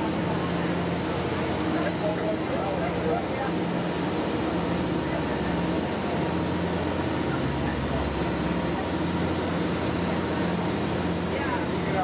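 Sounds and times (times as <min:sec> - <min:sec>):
motorboat engine drone: 0:00.0 - 0:12.0.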